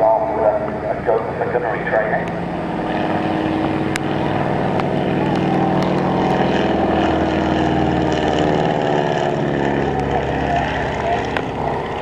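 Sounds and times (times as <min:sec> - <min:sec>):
biplane engine droning: 0:00.0 - 0:12.0.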